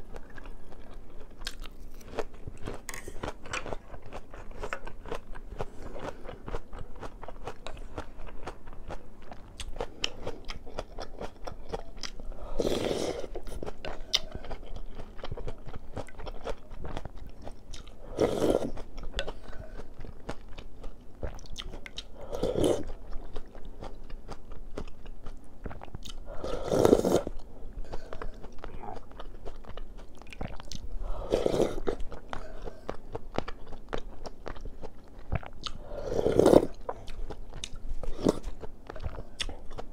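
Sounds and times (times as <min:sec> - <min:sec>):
close-up chewing with crunches: 0:00.0 - 0:39.9.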